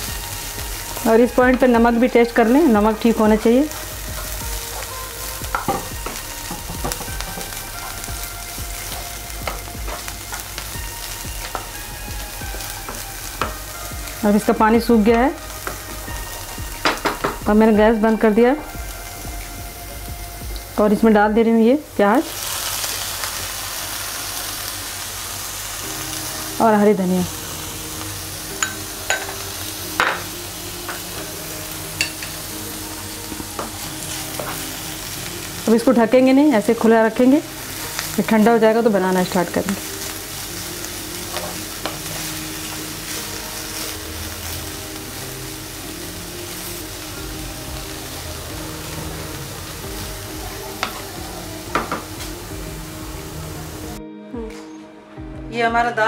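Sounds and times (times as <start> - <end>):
lentil mixture sizzling in a pan: 0.0 - 54.0.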